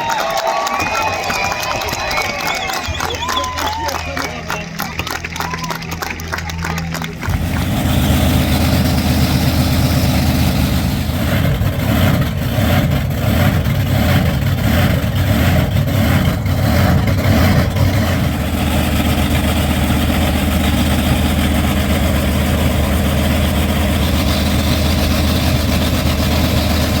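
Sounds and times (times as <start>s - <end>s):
big truck engine revving: 0.0s - 27.0s.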